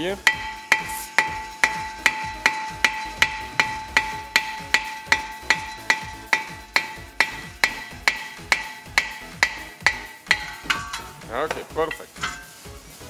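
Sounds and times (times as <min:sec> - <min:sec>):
hammer striking metal disc: 0:00.0 - 0:12.7.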